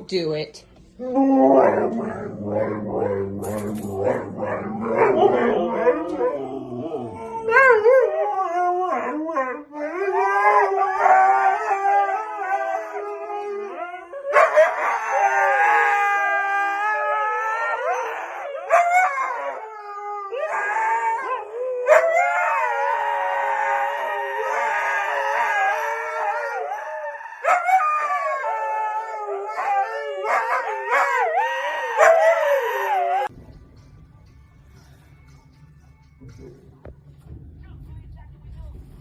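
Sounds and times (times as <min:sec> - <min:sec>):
dog howling: 0:01.0 - 0:33.3.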